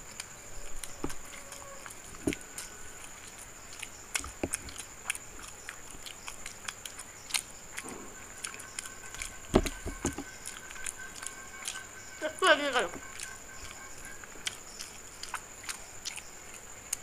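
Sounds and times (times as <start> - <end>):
people chewing food: 0.0 - 17.0
wet mouth clicks: 0.1 - 11.8, 13.0 - 17.0.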